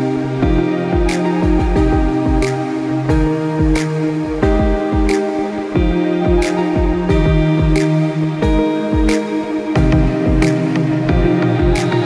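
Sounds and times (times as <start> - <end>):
electronic music with deep beat: 0.0 - 12.0.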